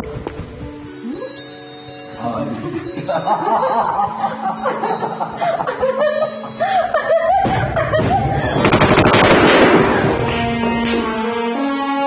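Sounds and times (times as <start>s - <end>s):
dramatic theme music: 0.8s - 12.0s.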